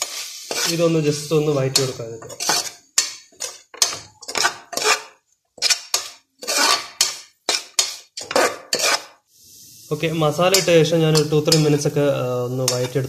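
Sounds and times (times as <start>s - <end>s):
metal spoon scraping a pot: 0.0s - 9.2s, 10.4s - 11.9s, 12.6s - 13.0s.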